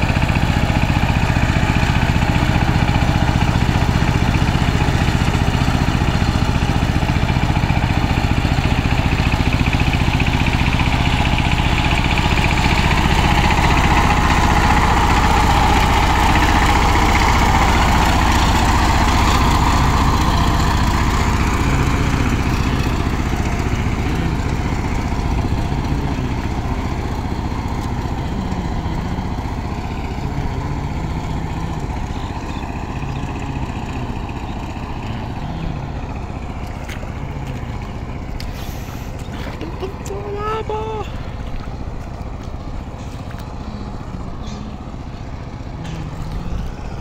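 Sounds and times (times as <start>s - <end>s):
diesel engine running steadily: 0.0s - 47.0s.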